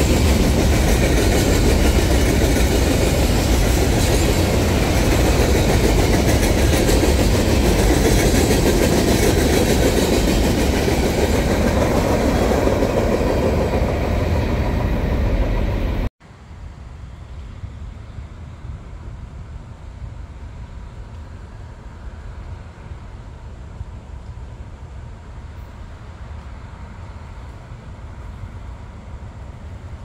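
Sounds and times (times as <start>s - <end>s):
steel train wheels on rail: 0.0s - 16.1s, 18.6s - 30.0s.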